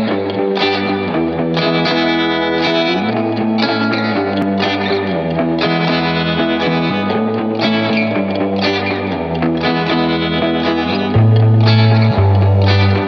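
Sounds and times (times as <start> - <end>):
rock music with distorted guitar: 0.0 - 13.0.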